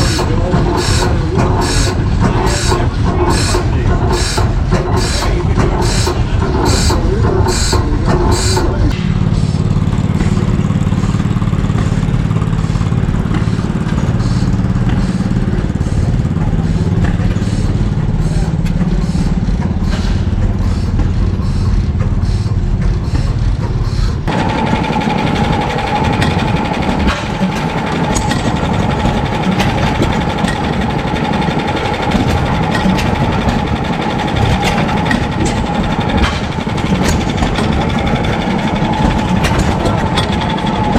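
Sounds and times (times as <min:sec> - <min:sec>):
engines humming: 0:00.0 - 0:40.9
high machine whine: 0:00.0 - 0:40.9
machine running: 0:00.0 - 0:40.9.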